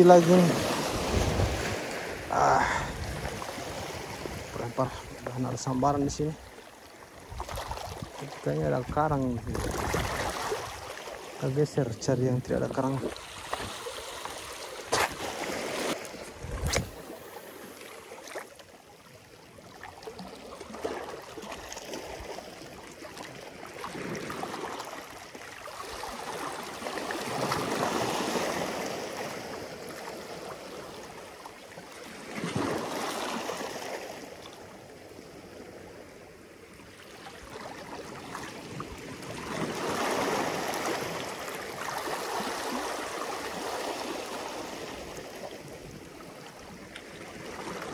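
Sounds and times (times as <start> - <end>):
waves lapping over rocks: 0.0 - 47.9.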